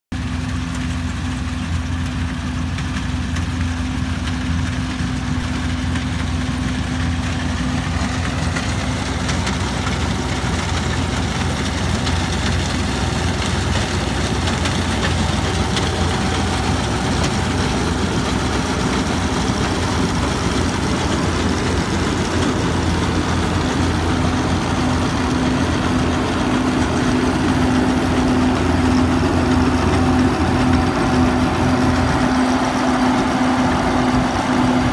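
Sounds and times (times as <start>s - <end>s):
harvester engine drone: 0.2s - 34.9s
machinery humming: 2.6s - 34.9s.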